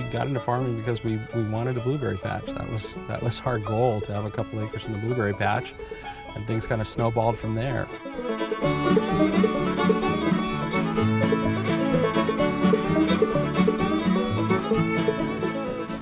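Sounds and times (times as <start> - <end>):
acoustic string-band music: 0.0 - 16.0.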